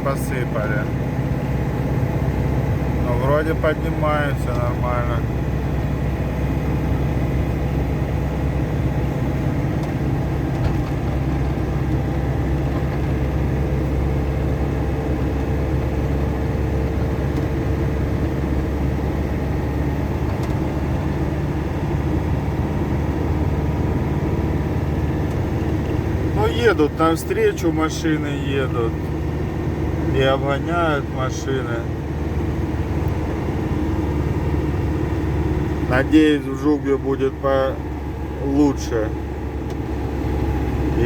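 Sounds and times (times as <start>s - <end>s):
diesel truck engine drone: 0.0s - 41.0s.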